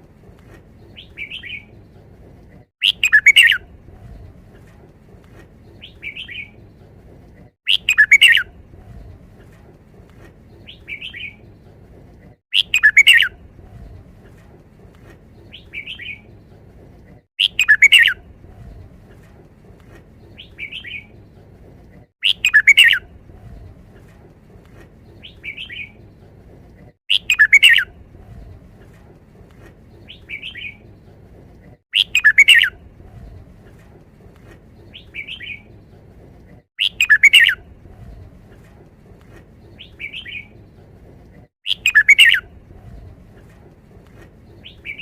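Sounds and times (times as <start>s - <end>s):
low background hum: 0.0s - 45.0s.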